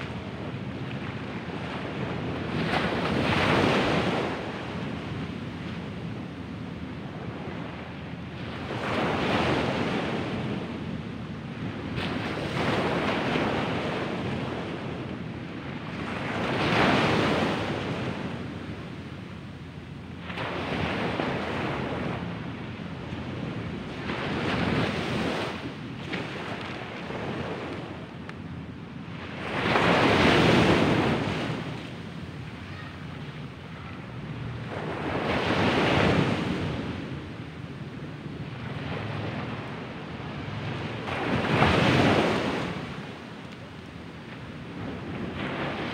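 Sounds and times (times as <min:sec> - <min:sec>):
ocean waves breaking on beach: 0:00.0 - 0:45.9.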